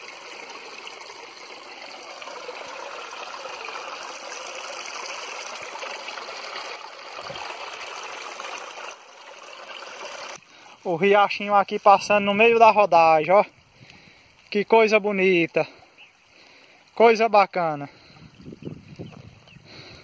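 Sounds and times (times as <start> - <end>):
stream trickling over rocks: 0.0 - 20.0.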